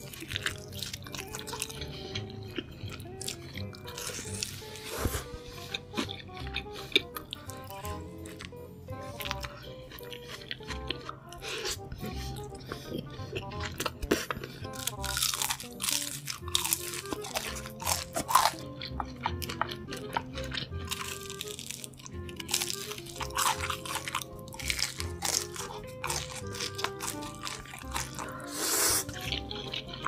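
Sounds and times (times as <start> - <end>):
background music: 0.0 - 30.0
crunchy chewing: 0.0 - 30.0.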